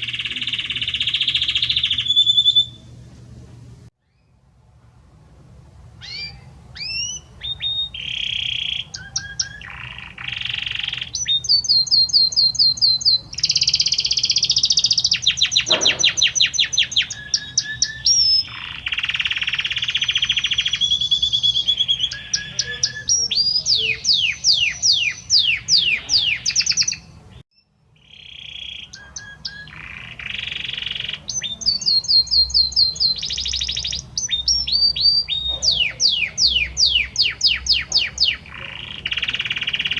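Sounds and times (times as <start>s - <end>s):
canary singing trills: 0.0s - 3.2s, 6.0s - 39.9s.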